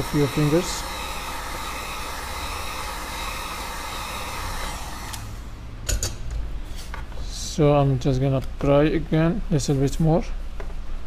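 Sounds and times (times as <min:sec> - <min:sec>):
hot-air blower fan whine: 0:00.0 - 0:11.0.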